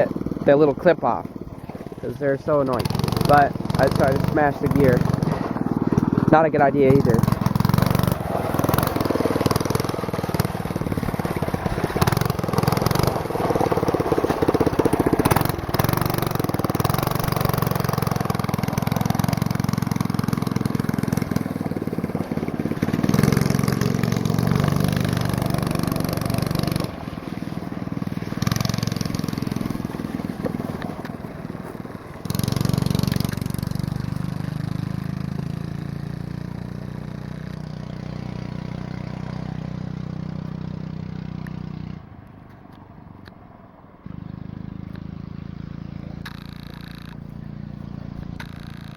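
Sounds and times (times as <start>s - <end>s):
go-kart engine revving: 0.0s - 42.1s, 44.0s - 48.9s.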